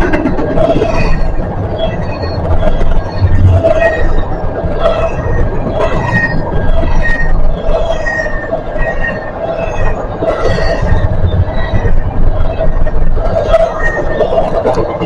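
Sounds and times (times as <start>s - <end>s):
freight train wheels rumbling: 0.0s - 15.0s
metallic ringing tone: 0.0s - 15.0s.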